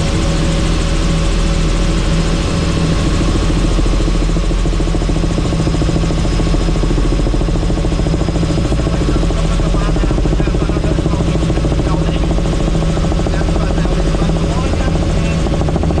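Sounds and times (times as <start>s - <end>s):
helicopter engine hum: 0.0s - 16.0s
helicopter rotor beating: 0.0s - 16.0s.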